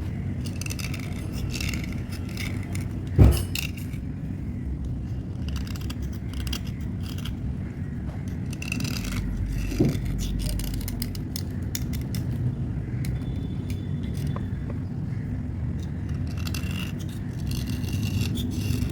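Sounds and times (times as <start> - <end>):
slate pencils clinking and scraping: 0.3 - 4.1, 4.9 - 7.5, 8.2 - 14.7, 15.7 - 18.9.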